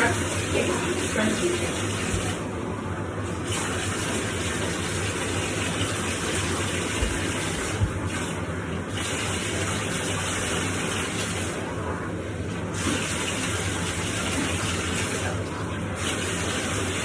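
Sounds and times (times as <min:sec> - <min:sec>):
water running from bathtub tap: 0:00.0 - 0:17.0.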